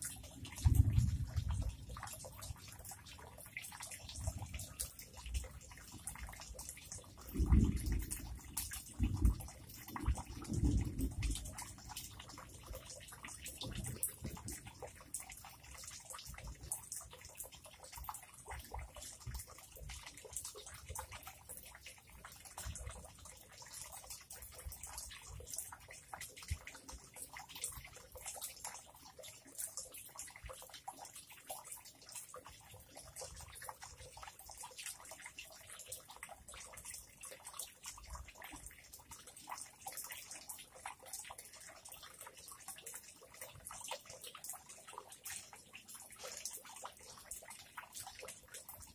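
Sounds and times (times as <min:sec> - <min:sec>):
water trickling into a pond: 0:00.0 - 0:48.9.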